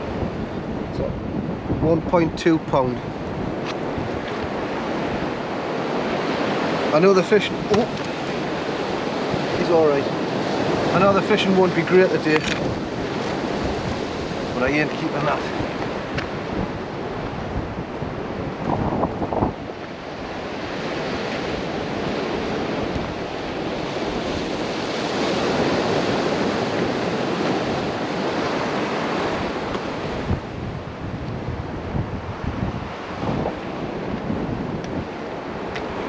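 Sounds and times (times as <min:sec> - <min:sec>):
sea surf washing on shore: 0:00.0 - 0:36.0
wind buffeting microphone: 0:00.0 - 0:36.0.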